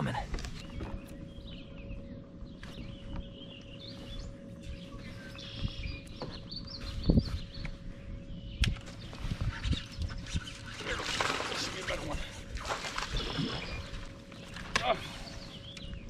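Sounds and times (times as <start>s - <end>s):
faint steady hum: 0.0s - 16.0s
songbirds chirping and singing: 0.0s - 16.0s.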